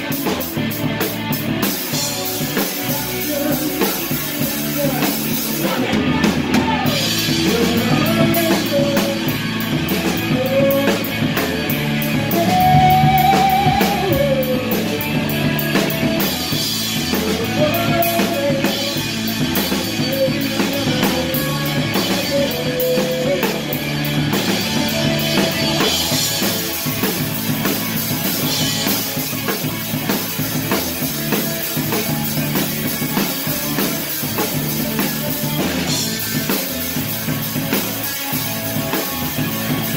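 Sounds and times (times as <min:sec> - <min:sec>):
electric guitar: 0:00.0 - 0:39.9
fast drumming: 0:00.0 - 0:39.9.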